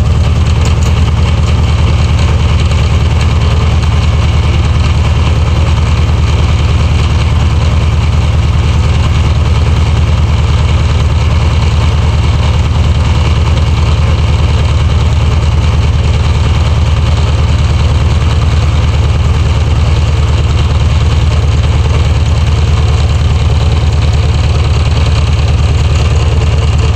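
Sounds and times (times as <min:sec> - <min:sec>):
abnormal pulley noise: 0:00.0 - 0:26.9
car engine idling: 0:00.0 - 0:26.9.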